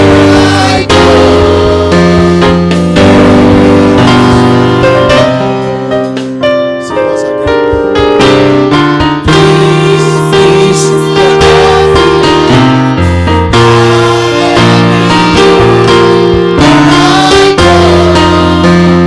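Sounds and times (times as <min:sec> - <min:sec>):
electric keyboard gospel chords: 0:00.0 - 0:19.0.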